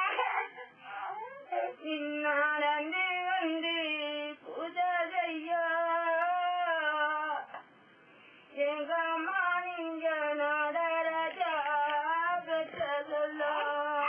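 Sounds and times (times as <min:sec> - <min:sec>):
woman singing unaccompanied: 0:01.4 - 0:07.6, 0:08.5 - 0:14.0.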